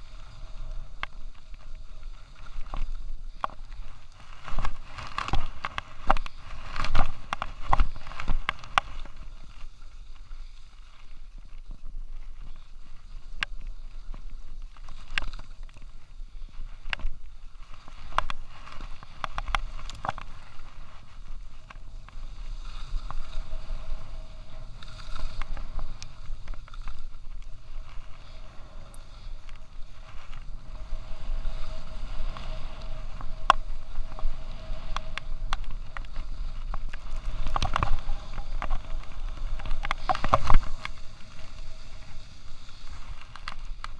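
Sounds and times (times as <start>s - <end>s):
skis scraping over snow: 0.0s - 43.9s.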